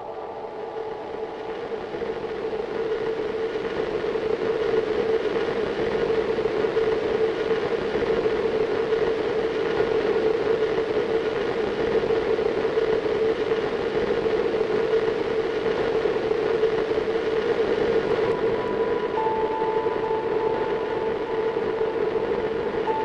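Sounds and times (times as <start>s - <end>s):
industrial drone with hum: 0.0s - 13.6s, 14.2s - 23.0s.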